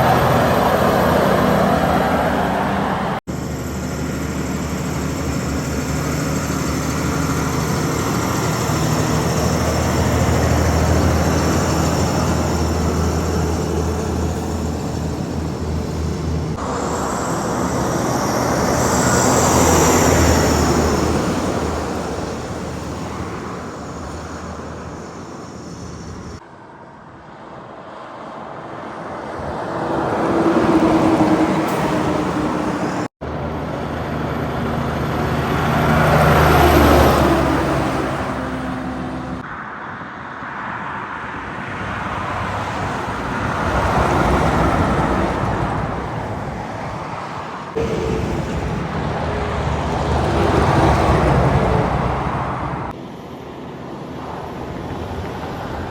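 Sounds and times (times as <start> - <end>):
heavy trucks passing: 0.0 - 55.9.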